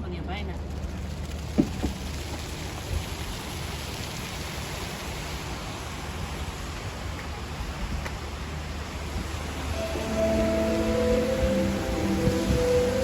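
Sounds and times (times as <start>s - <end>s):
fountain water spraying: 0.4s - 13.0s.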